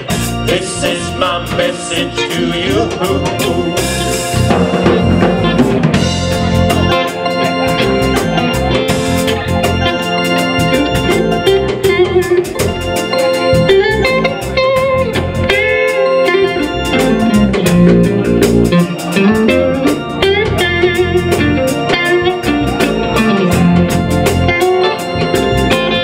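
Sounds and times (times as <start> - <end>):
electric guitar bent notes: 0.0 - 26.0
live band playing: 0.0 - 26.0.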